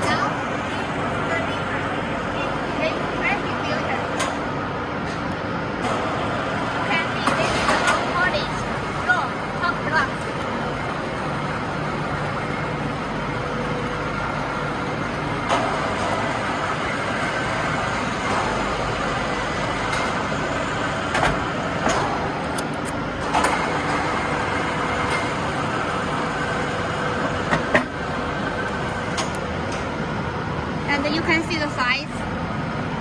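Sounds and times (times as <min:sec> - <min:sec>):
factory machinery running: 0:00.0 - 0:33.0.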